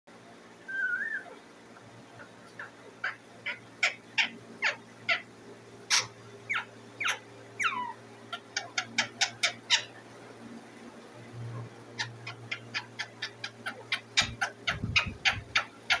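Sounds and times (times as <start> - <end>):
parakeet calling: 0.7 - 10.0, 11.9 - 16.0.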